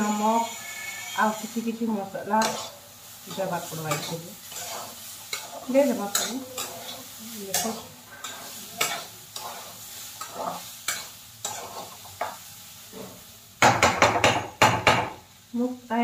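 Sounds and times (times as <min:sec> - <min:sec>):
steel spatula scraping pan: 0:00.0 - 0:13.2
faint sizzle: 0:00.0 - 0:16.0.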